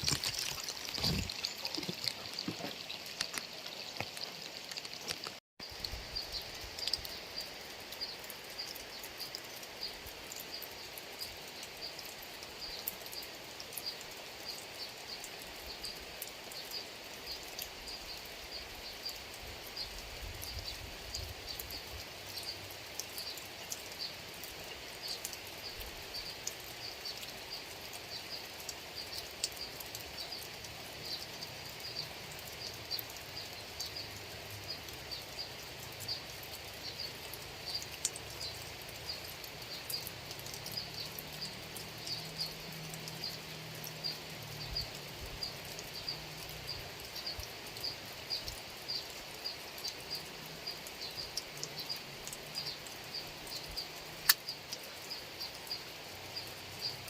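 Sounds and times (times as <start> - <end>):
rain falling on a field: 0.0 - 57.0.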